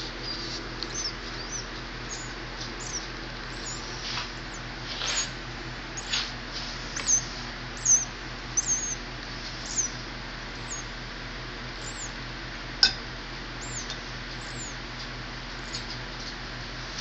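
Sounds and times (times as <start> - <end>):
baby bird peeping: 0.0 - 11.1, 11.7 - 12.2, 13.6 - 16.1.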